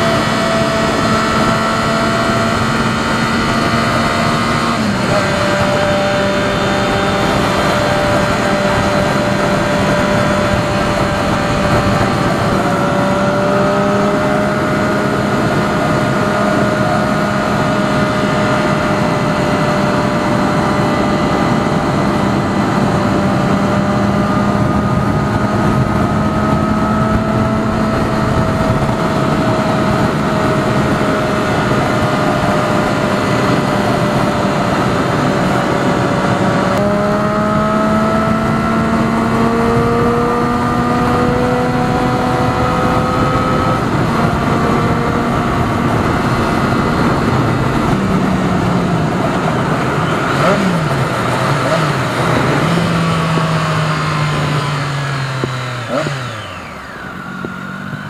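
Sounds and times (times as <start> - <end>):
motorcycle engine cruising: 0.0 - 58.0
wind rush on microphone: 0.0 - 58.0.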